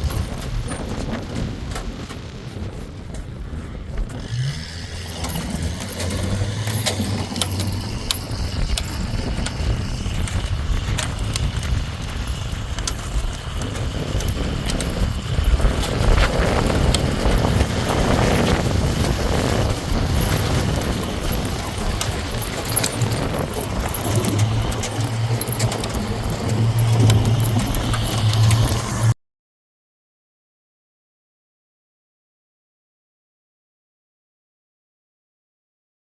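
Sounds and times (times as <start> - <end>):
vehicle engine rumbling: 0.0 - 29.2.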